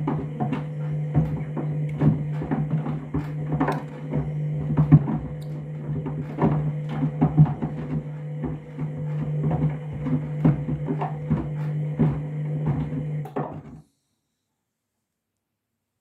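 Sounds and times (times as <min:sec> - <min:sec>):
shoes knocking in tumbling drum: 0:00.0 - 0:13.6
washing machine motor hum: 0:00.0 - 0:13.8.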